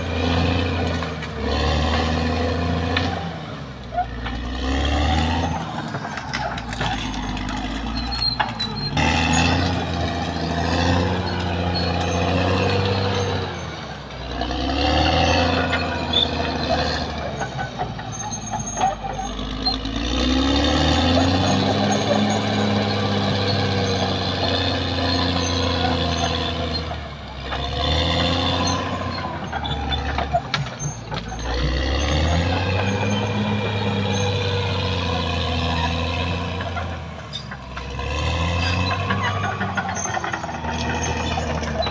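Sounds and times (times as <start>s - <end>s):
bulldozer diesel engine revving: 0.0s - 41.9s.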